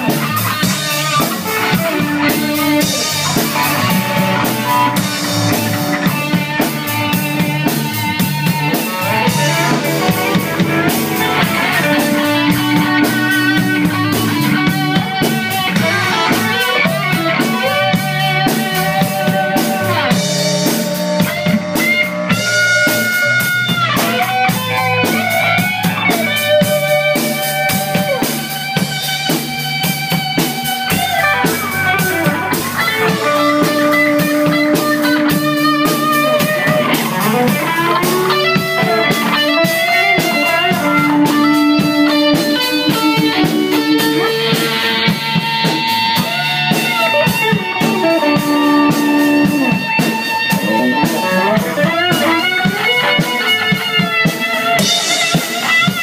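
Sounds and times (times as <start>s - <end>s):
drum beat: 0.0s - 56.0s
electric guitars jamming: 0.0s - 56.0s.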